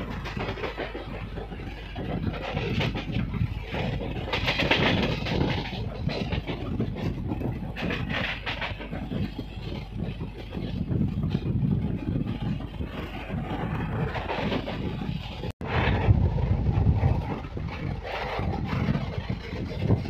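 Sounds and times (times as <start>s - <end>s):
clatter over rails: 0.0s - 20.0s
train wheels rumbling on track: 0.0s - 20.0s.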